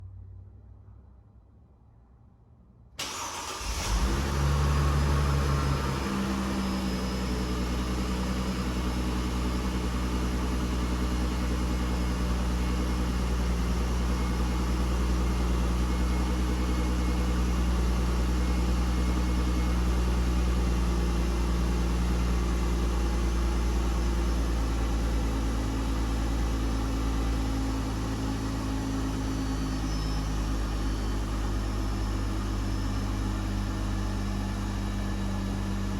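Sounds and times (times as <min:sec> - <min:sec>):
car engine starting and idling: 0:03.0 - 0:35.9.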